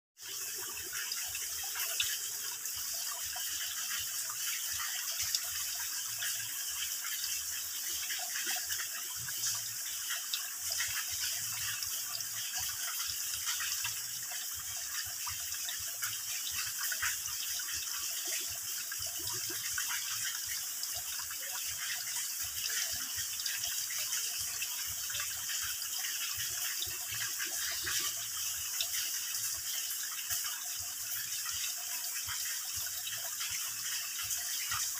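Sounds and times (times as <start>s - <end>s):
water dripping into pool: 0.2s - 34.9s.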